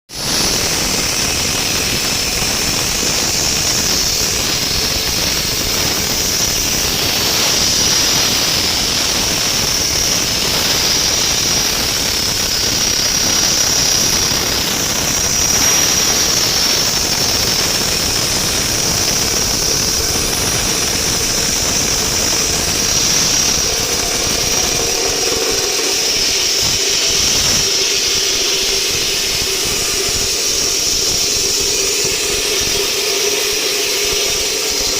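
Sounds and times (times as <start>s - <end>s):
saw cutting concrete: 0.1s - 34.9s.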